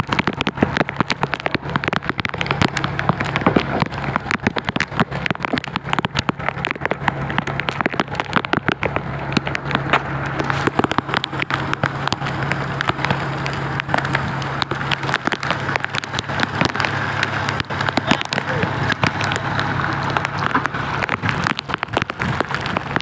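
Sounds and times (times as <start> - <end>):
heavy rain on hard surfaces: 0.0 - 23.0
steady low hum: 0.0 - 23.0.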